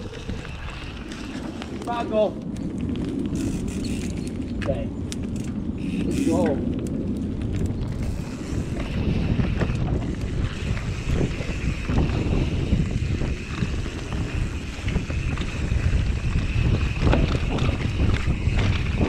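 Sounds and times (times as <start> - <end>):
bike knocking and rattling: 0.0 - 19.0
wind buffeting microphone: 0.0 - 19.0.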